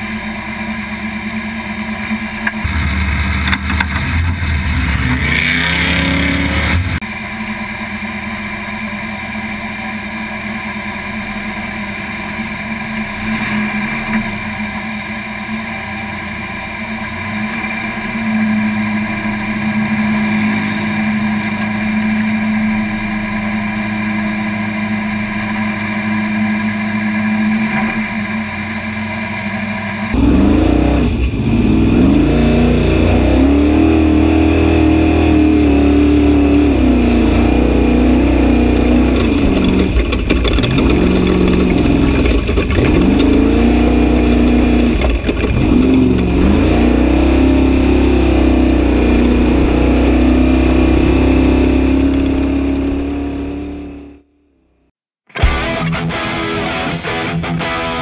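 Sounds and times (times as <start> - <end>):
race truck engine revving: 2.4 - 7.0, 12.2 - 54.3, 55.4 - 58.0.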